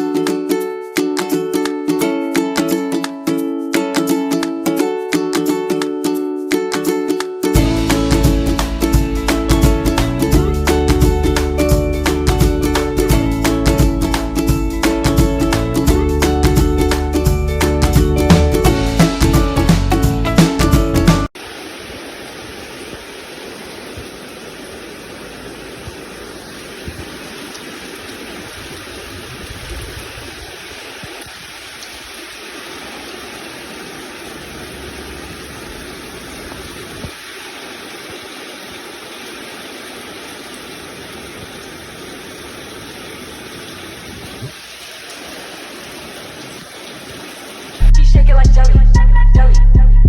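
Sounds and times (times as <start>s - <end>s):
rushing water: 0.0s - 48.2s.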